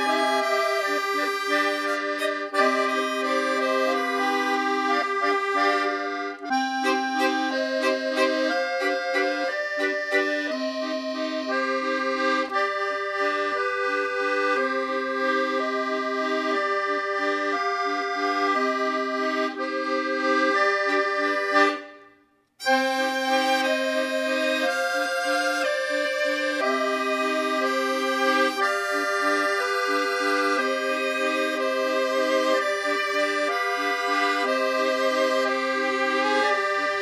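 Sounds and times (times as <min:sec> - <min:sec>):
tango music on bandoneon: 0:00.0 - 0:37.0.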